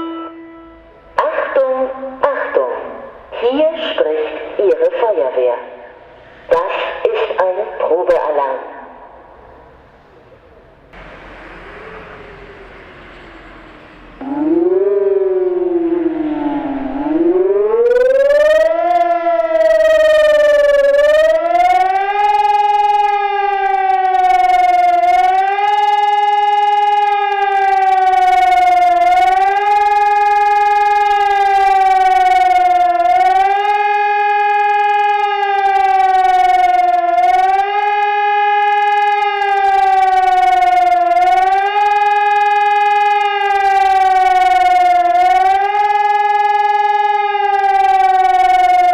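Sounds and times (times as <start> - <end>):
warning siren rising and falling: 0.0 - 5.0, 5.6 - 48.9.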